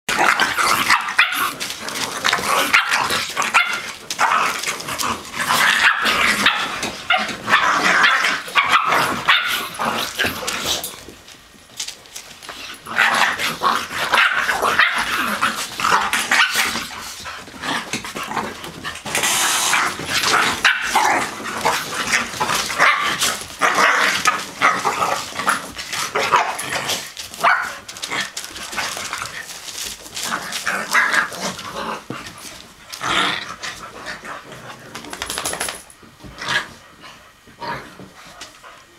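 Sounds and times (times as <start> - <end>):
dogs barking in play: 0.1 - 11.2, 12.5 - 35.2.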